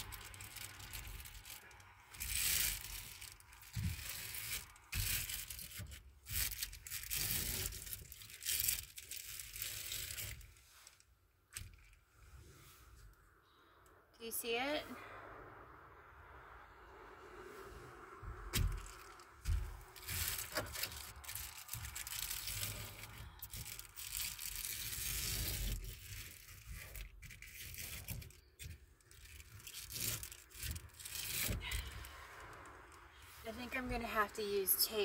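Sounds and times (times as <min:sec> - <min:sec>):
foil panel scraping on window: 0:00.0 - 0:13.0, 0:18.2 - 0:35.0.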